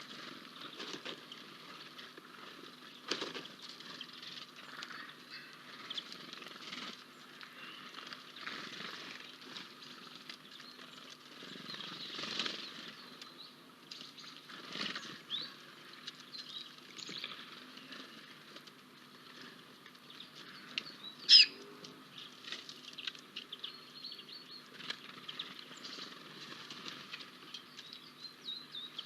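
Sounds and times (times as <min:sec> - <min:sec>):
wings rustling and fluttering: 0:00.0 - 0:23.6, 0:24.6 - 0:28.1
birds chirping: 0:00.0 - 0:29.0.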